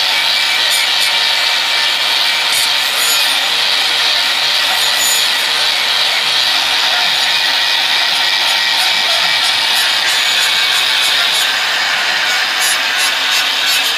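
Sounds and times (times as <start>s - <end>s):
angle grinder grinding metal: 0.0s - 13.9s.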